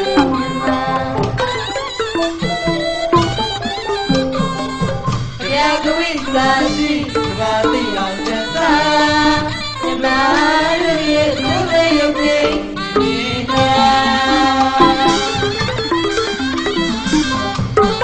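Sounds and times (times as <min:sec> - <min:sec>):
sliding folk melody: 0:00.0 - 0:18.0
steady percussion: 0:00.0 - 0:18.0.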